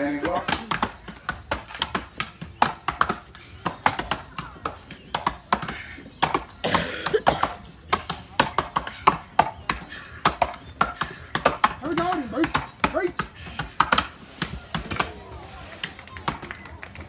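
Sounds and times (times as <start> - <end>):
axes chopping wood: 0.2 - 16.4.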